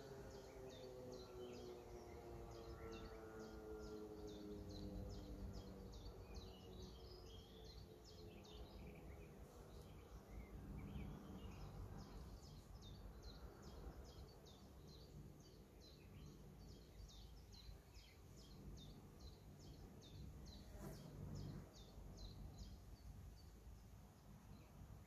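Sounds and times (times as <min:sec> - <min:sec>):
small bird chirping: 0:00.0 - 0:25.0
faint low rumble: 0:04.9 - 0:25.0.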